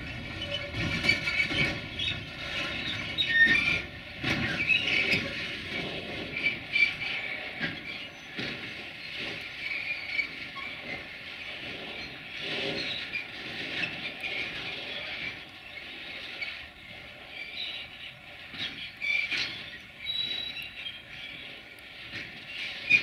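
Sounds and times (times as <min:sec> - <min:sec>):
freight wagons rumbling: 0:00.0 - 0:23.0
wheel squeals: 0:00.0 - 0:23.0.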